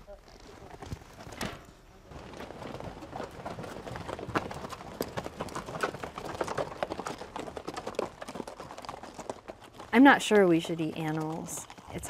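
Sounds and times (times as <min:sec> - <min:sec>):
horse hooves clopping: 0:00.0 - 0:12.0.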